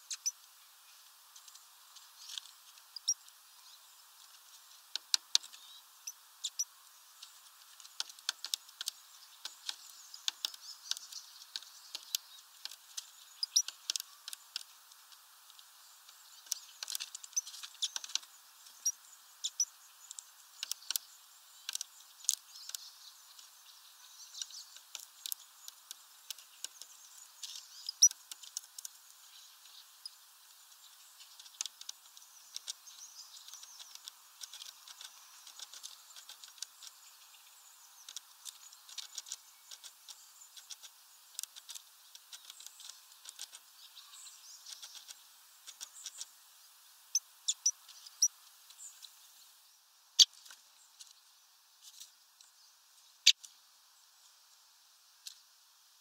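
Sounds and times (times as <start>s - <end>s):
faint high bird chirps: 0.0s - 1.0s, 2.1s - 4.1s, 5.0s - 14.6s, 15.7s - 46.4s, 47.1s - 51.4s
birds pecking seeds: 0.0s - 49.6s, 50.2s - 55.6s.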